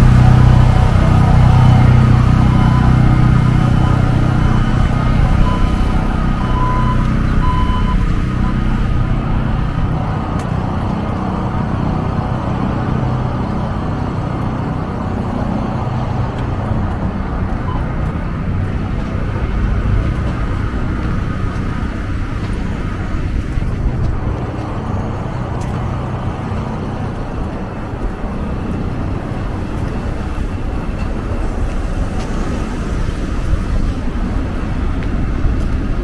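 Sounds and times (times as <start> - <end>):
city street traffic: 0.0 - 36.0
vehicle engine humming: 0.0 - 36.0.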